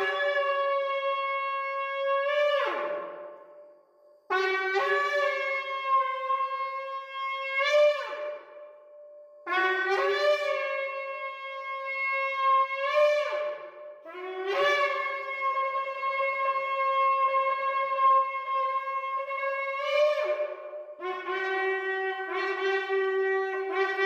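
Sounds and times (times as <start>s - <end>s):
shofar blasts: 0.0s - 3.6s, 4.3s - 24.0s.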